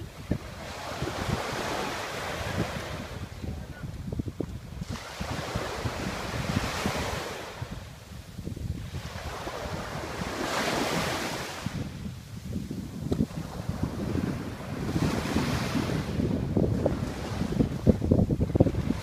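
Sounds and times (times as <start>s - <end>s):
waves washing onto shore: 0.0s - 19.0s
wind buffeting microphone: 0.0s - 19.0s.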